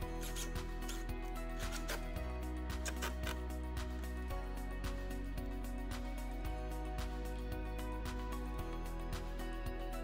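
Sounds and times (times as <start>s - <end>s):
background music with sustained tones: 0.0s - 10.0s.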